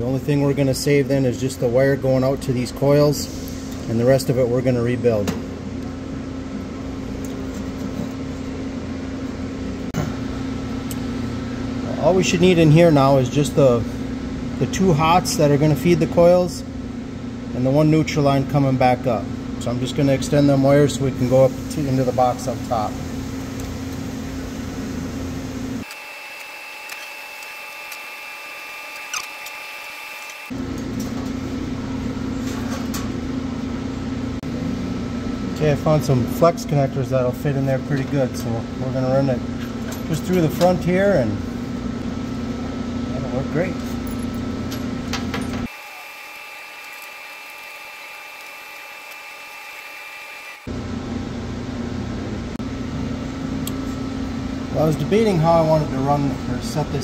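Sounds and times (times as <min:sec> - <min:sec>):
air conditioning hum: 0:00.0 - 0:26.2, 0:30.4 - 0:45.8, 0:50.6 - 0:57.0.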